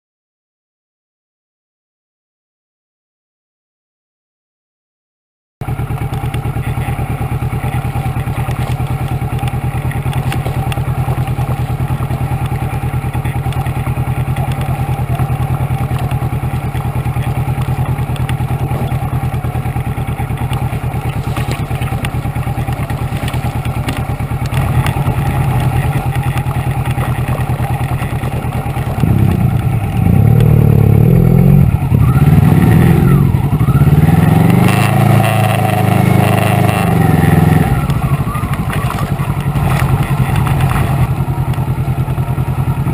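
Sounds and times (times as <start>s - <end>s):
motorcycle engine running: 5.6s - 42.9s.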